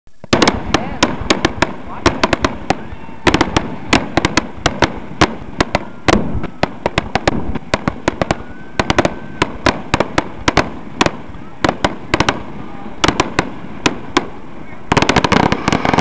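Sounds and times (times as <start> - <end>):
firework shells bursting: 0.2 - 16.0.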